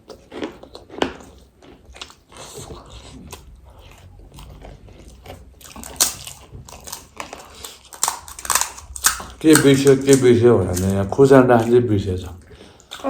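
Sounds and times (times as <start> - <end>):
chewing and crunching snacks: 0.0 - 13.0.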